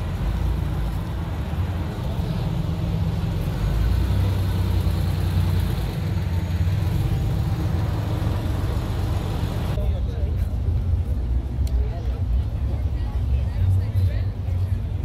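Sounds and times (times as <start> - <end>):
car engine rumbling at low revs: 0.0 - 15.0.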